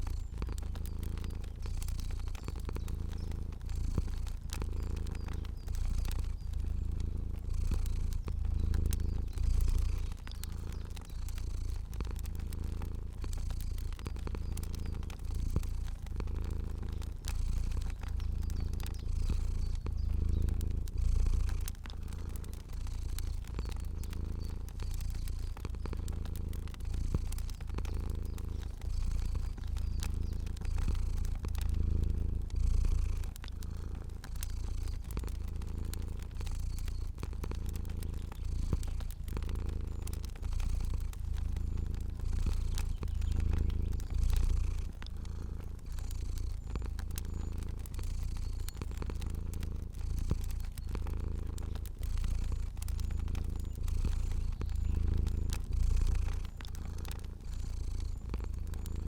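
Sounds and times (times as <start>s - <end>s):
cat purring: 0.0s - 59.0s
fire popping and crackling: 0.0s - 59.0s.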